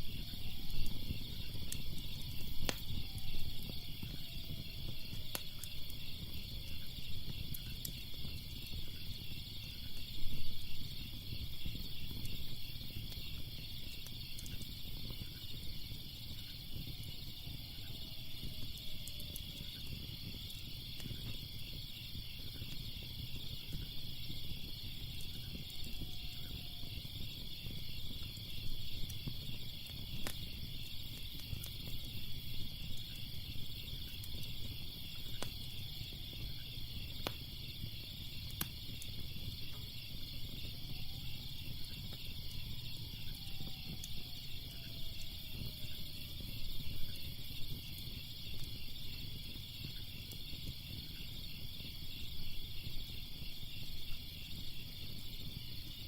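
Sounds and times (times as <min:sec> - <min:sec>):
crickets chirping: 0:00.0 - 0:56.0
fire burning: 0:00.0 - 0:56.0
fire crackling and popping: 0:00.0 - 0:56.0.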